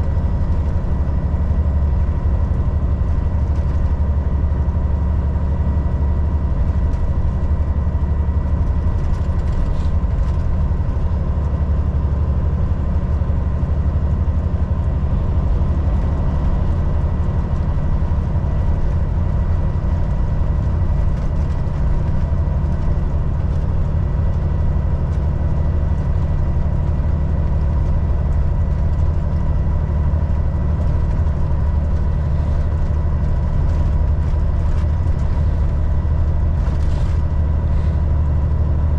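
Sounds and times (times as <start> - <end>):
truck engine drone: 0.0 - 38.9
road noise: 5.9 - 38.9.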